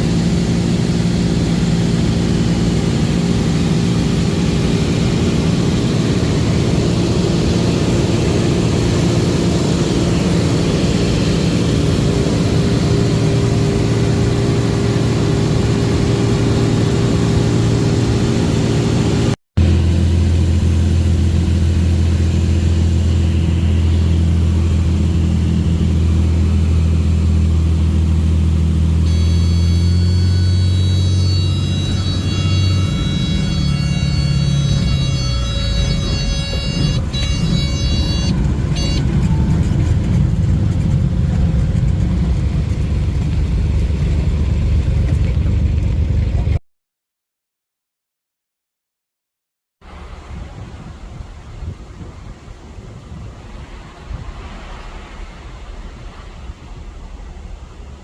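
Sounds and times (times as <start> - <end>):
lower heavier engine drone: 0.0 - 46.6, 49.8 - 58.0
propeller aircraft engine droning: 0.0 - 46.6, 49.8 - 58.0.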